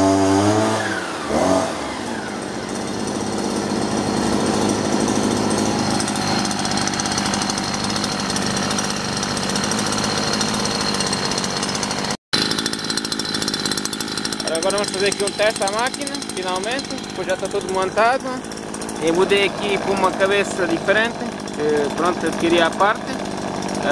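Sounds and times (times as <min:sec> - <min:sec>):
brushcutter engine running: 0:00.0 - 0:23.9.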